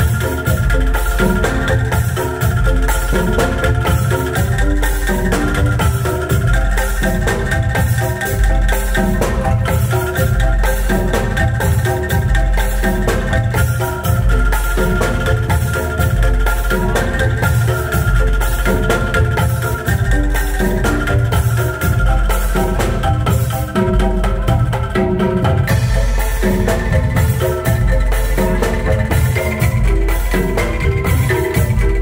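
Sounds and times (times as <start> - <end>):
bamboo percussion notes: 0.0 - 32.0
low drum beat: 0.0 - 32.0.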